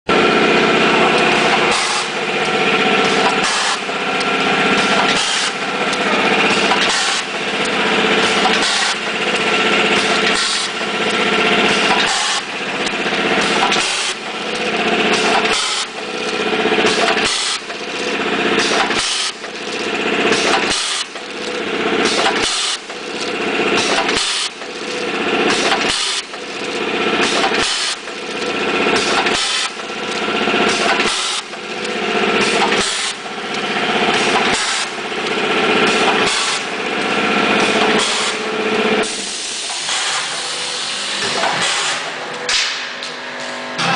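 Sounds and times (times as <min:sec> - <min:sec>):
packing machine whirring: 0:00.1 - 0:43.9.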